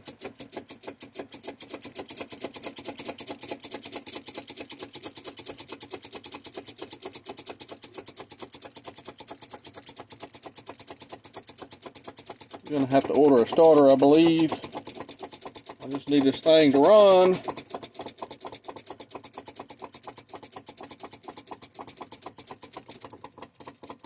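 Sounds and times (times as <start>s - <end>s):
starter solenoid rapid clicking: 0.0s - 24.0s.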